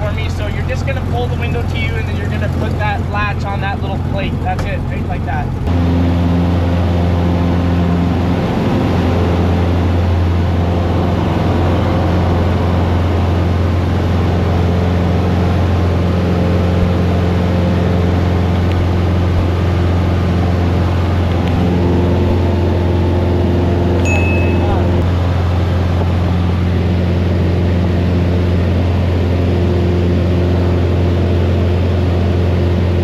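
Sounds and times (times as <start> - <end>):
propeller plane engine drone: 0.0 - 33.0.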